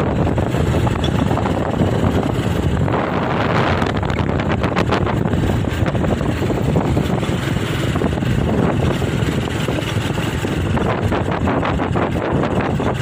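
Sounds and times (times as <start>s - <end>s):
moving vehicle running: 0.0s - 13.0s
wind buffeting microphone: 0.0s - 13.0s.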